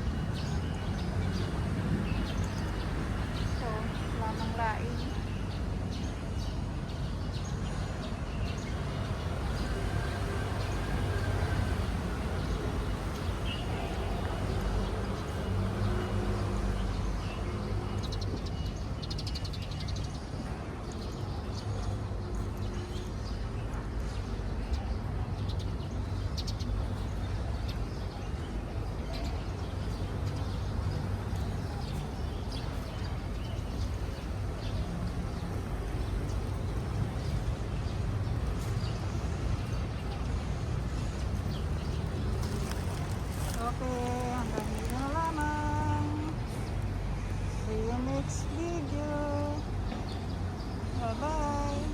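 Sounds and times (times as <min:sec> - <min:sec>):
small birds chirping: 0:08.5 - 0:51.9.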